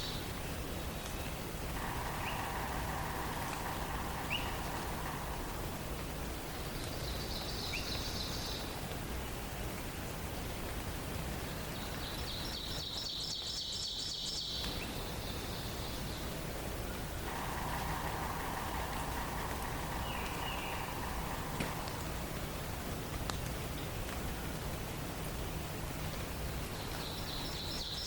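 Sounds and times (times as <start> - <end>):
forest ambience hiss: 0.0 - 28.0.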